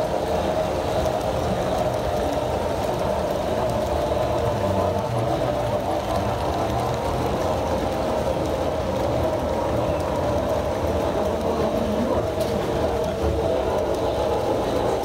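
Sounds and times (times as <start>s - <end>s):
small wheels rolling on rail: 0.0s - 15.0s.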